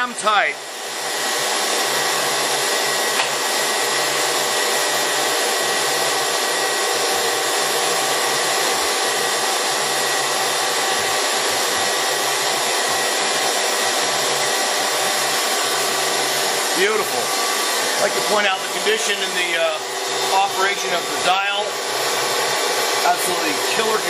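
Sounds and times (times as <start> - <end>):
lathe whirring with high whine: 0.0 - 24.0.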